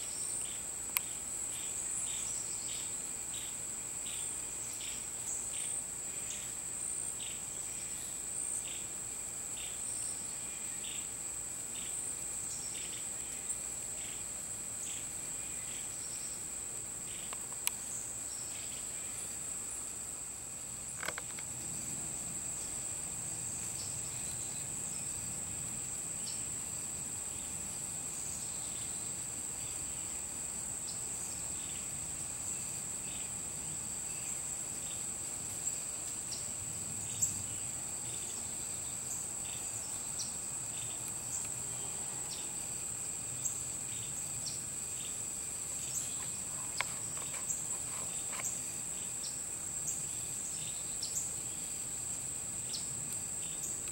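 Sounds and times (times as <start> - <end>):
insect chorus trilling: 0.0 - 53.9
short insect chirps: 0.0 - 53.9.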